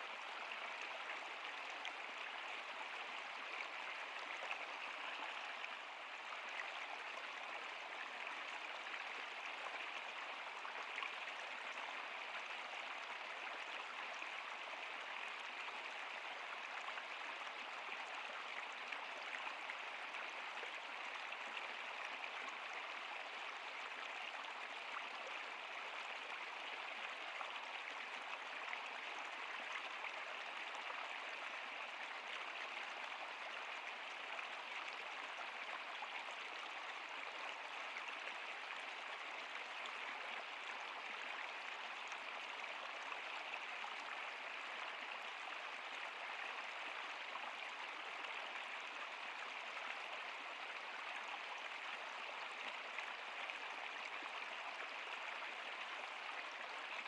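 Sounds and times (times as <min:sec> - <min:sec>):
flowing stream water: 0:00.0 - 0:57.0.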